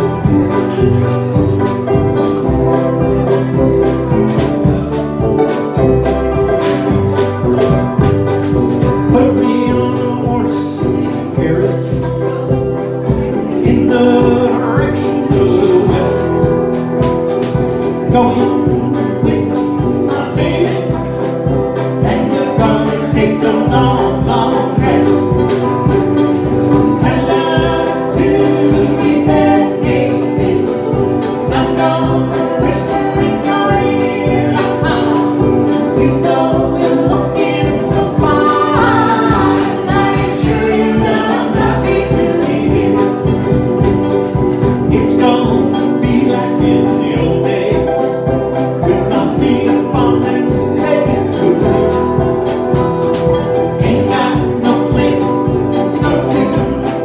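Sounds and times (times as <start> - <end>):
upbeat band music: 0.0 - 57.0.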